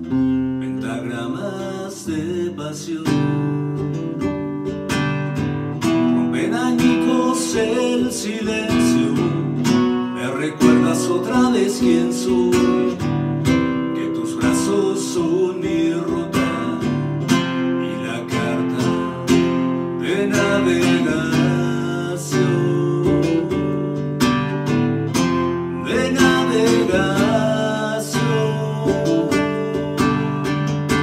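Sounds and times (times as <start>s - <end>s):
acoustic guitar strumming: 0.0s - 31.0s
man singing wordlessly: 0.6s - 4.6s, 5.8s - 13.1s, 13.8s - 24.2s, 25.6s - 31.0s.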